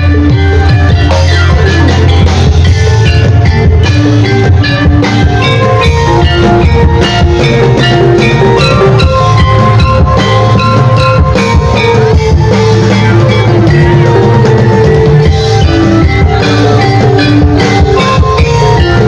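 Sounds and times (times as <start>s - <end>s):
troupe music over sound system: 0.0s - 19.0s.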